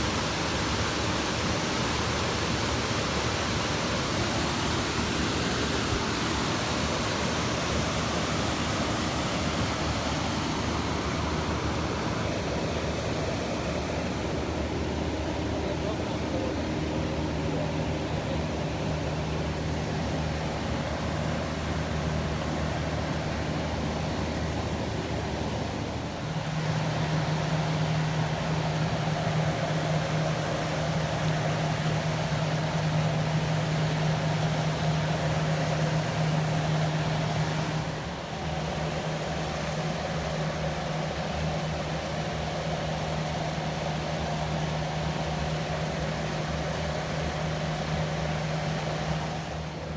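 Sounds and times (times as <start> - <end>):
low steady hum: 6.7 - 49.9.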